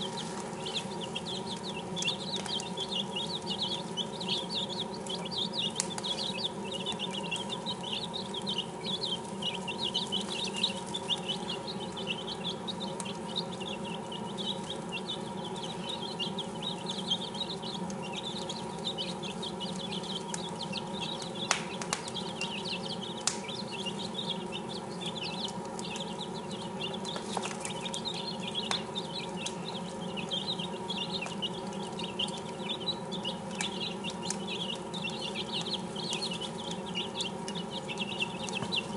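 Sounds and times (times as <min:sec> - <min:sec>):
chicks peeping: 0:00.0 - 0:38.9
steady low hum: 0:00.0 - 0:38.9.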